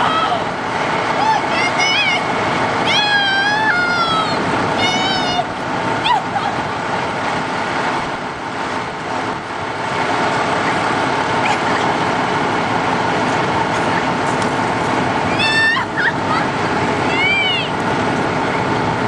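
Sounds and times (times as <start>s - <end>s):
truck engines idling: 0.0s - 19.0s.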